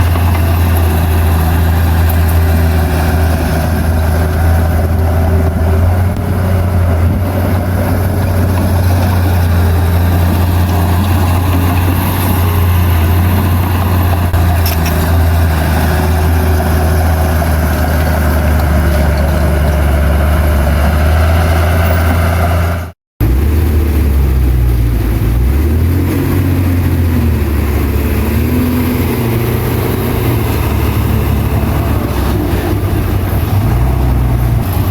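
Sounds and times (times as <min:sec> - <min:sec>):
diesel engine running loud: 0:00.0 - 0:34.9.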